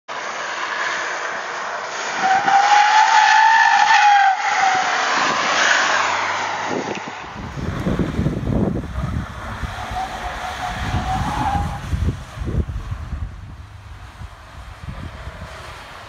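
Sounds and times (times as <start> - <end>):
car driving away: 0.1 - 16.0.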